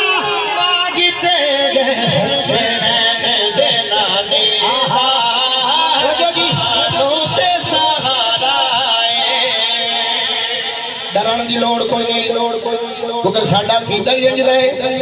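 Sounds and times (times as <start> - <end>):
man singing devotional chant: 0.0 - 15.0.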